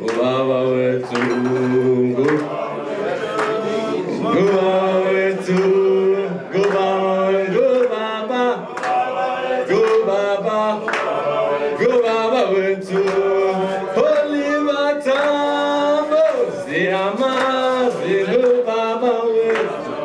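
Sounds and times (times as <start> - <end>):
crowd chanting: 0.0 - 20.0
man singing into a microphone: 0.0 - 20.0.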